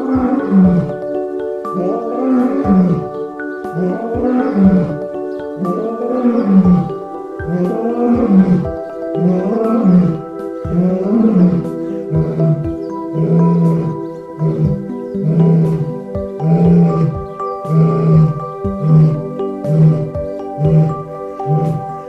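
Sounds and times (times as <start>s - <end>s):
big cat roaring: 0.0s - 1.0s, 3.8s - 6.9s, 7.5s - 8.6s, 9.2s - 22.0s
background music: 0.0s - 22.0s.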